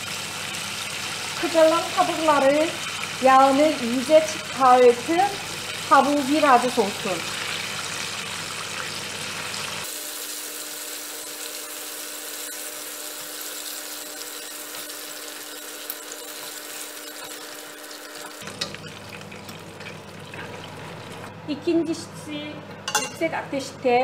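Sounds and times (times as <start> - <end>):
chicken deep-frying in oil: 0.0 - 21.3.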